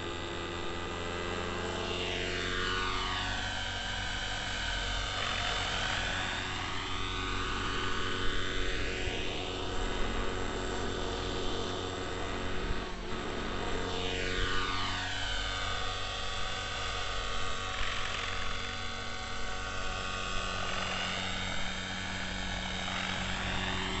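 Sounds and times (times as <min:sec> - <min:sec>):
rc helicopter engine whine: 0:00.0 - 0:24.0.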